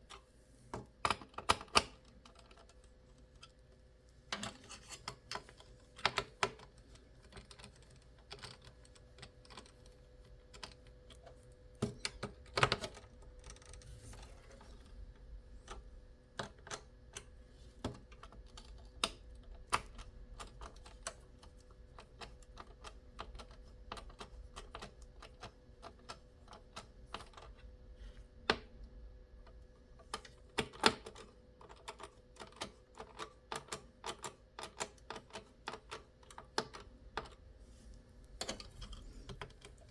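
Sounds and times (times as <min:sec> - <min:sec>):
faint steady hum: 0:00.0 - 0:39.9
computer parts clicking and tapping: 0:00.7 - 0:27.7, 0:28.4 - 0:37.5, 0:38.3 - 0:39.9.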